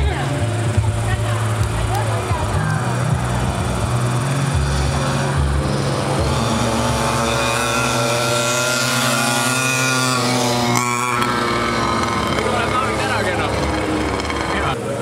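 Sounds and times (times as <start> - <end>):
moped engines revving: 0.0 - 15.0.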